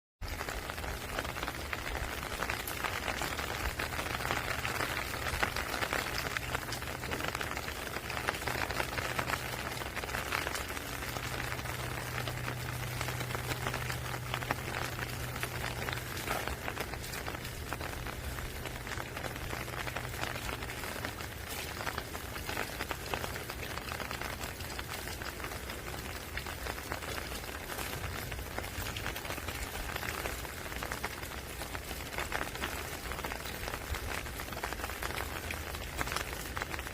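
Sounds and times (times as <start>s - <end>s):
steady rain falling: 0.2s - 36.9s.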